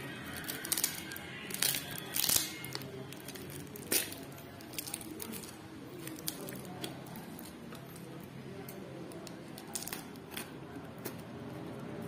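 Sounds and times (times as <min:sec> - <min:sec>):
plastic wrapping tearing and crinkling: 0:00.0 - 0:08.2, 0:09.1 - 0:10.9.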